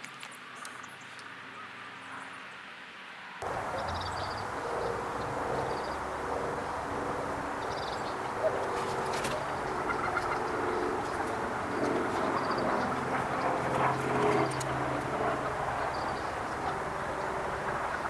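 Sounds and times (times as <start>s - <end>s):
steady background noise: 0.0s - 18.0s
bird calls: 3.4s - 18.0s.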